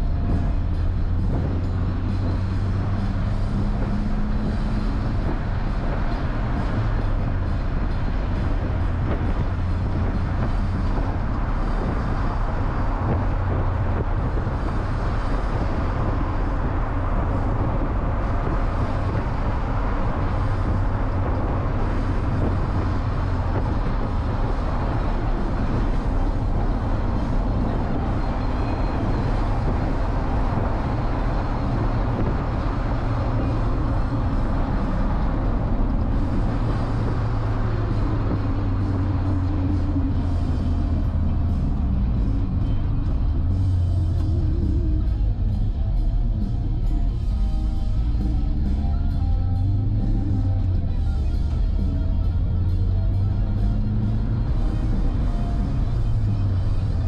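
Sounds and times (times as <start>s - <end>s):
car engine humming: 0.0s - 57.0s
road noise: 0.0s - 57.0s
wind noise: 0.0s - 57.0s.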